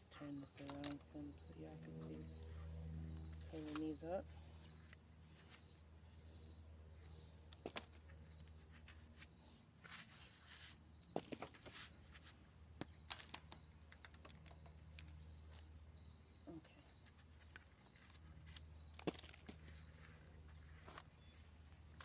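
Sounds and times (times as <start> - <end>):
soil rustling and scraping: 0.0 - 16.0, 16.6 - 22.0.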